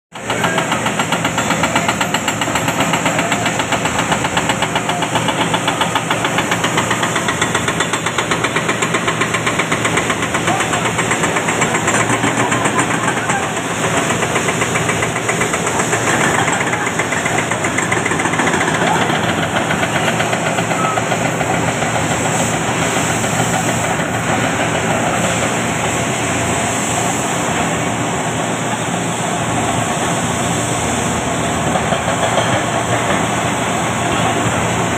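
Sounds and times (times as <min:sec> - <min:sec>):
heavy diesel machinery engines: 0:00.1 - 0:34.9.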